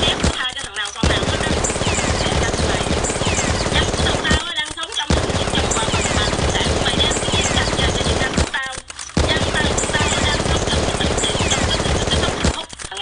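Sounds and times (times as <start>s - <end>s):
rapid automatic gunfire: 0.0s - 13.0s.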